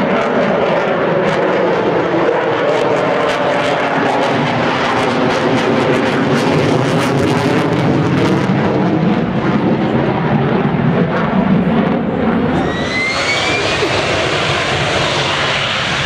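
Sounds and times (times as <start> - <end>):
deep jet drone: 0.0 - 16.0
fighter jet crackling roar: 0.0 - 16.0.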